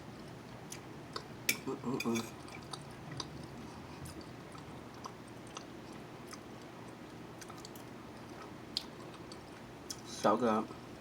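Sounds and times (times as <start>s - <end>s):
person chewing food: 0.2s - 10.1s.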